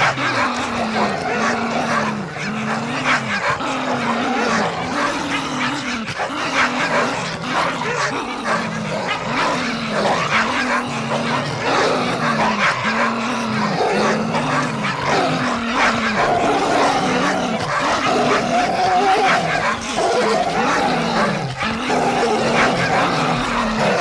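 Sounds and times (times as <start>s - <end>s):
dogs barking aggressively: 0.0s - 24.0s
low wavering growl: 0.0s - 24.0s.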